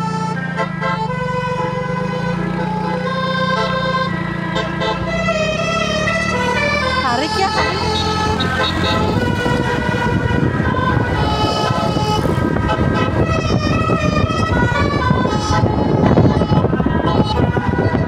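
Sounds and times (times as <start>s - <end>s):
bus horn playing a melody: 0.0s - 18.0s
low rumble of bus and traffic: 0.0s - 18.0s.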